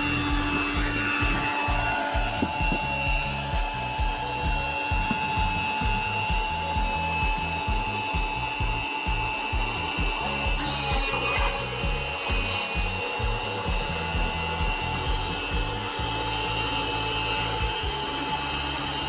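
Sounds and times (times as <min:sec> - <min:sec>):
background music with low beat: 0:00.0 - 0:19.0
cordless drills whining: 0:00.0 - 0:19.0.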